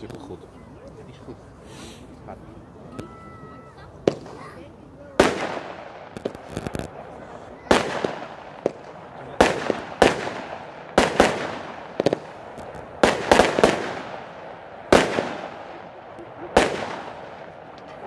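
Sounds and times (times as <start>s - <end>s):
fireworks bangs: 2.9s - 18.0s.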